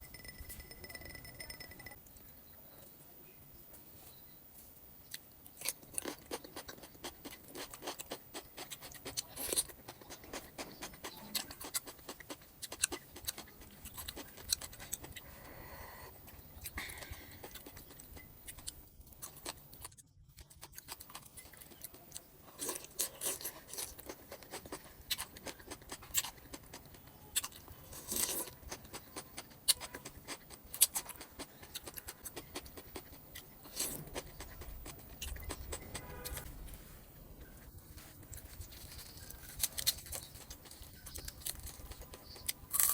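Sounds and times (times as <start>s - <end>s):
person crunching raw vegetables: 5.1s - 42.9s.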